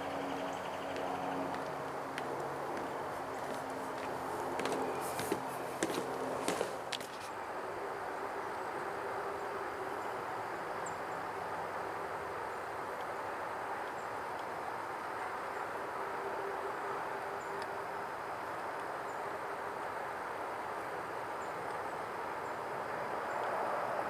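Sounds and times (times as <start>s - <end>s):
distant highway traffic hum: 0.0s - 24.0s.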